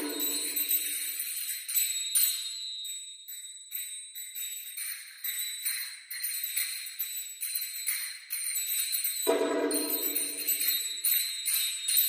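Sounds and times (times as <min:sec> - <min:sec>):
metal percussion jingling: 0:00.0 - 0:12.0.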